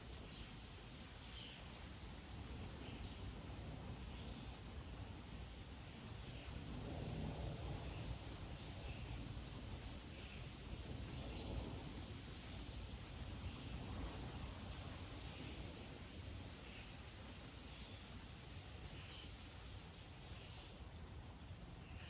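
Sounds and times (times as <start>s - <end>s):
faint outdoor rumble: 0.0s - 22.0s.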